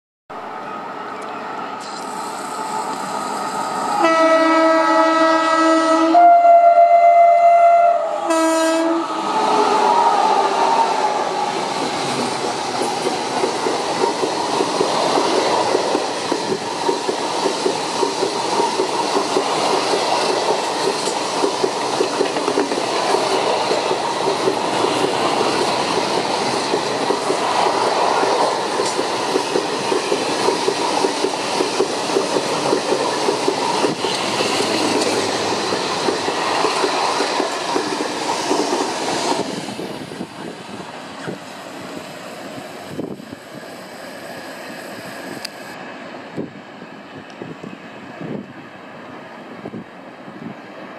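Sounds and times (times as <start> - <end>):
freight train passing: 0.3 - 50.9.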